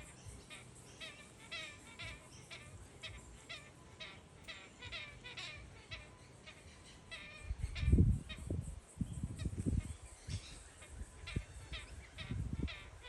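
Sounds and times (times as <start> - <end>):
galah calling: 0.0 - 13.0.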